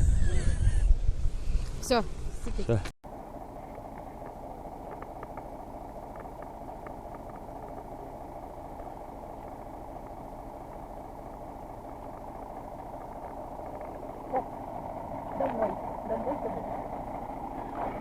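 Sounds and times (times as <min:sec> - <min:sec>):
bus engine humming: 0:02.0 - 0:18.0.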